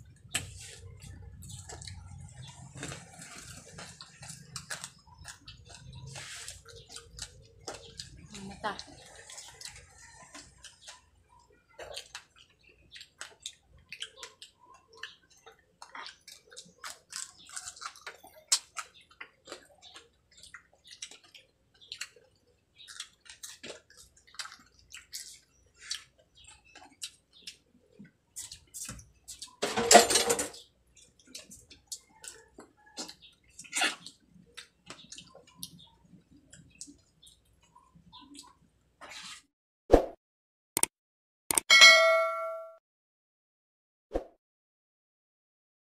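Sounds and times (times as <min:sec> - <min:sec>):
wet eating sounds: 0:00.0 - 0:29.6, 0:30.8 - 0:39.4.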